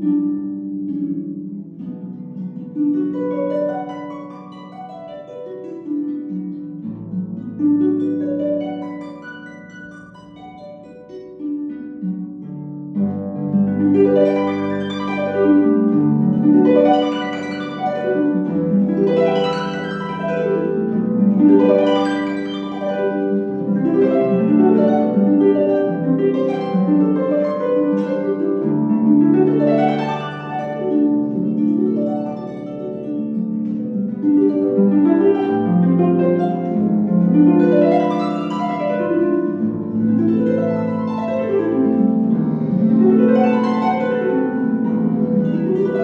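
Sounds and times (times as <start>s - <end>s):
harp plucked notes and chords: 0.0s - 46.0s.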